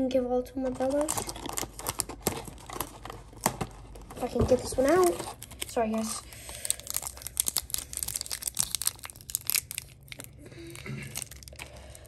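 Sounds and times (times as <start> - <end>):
foil wrapper tearing: 0.8 - 3.5, 5.0 - 12.0.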